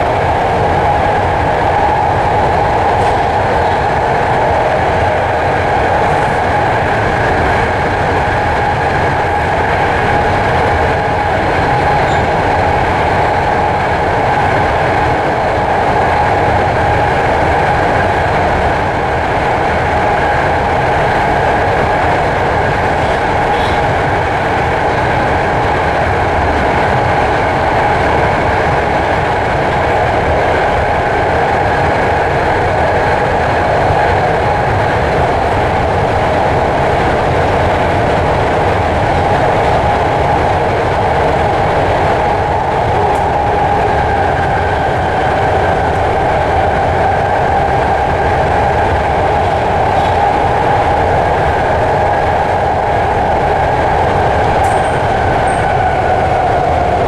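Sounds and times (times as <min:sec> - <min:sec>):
constant train whine: 0:00.0 - 0:57.0
train wheels rumbling on rail: 0:00.0 - 0:57.0.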